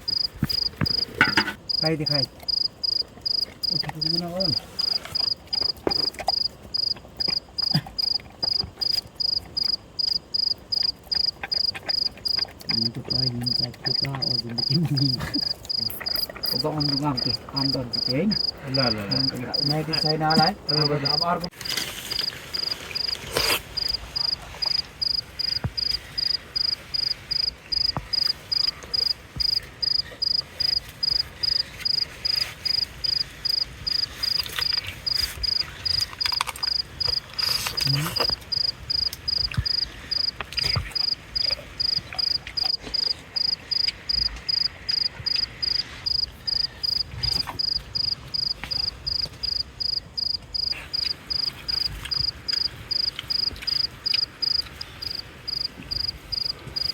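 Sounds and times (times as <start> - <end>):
insect chirping: 0.0 - 56.9.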